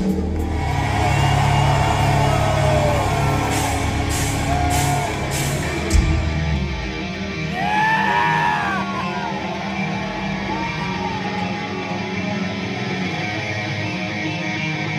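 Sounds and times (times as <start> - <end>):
electric guitar: 0.0 - 14.9.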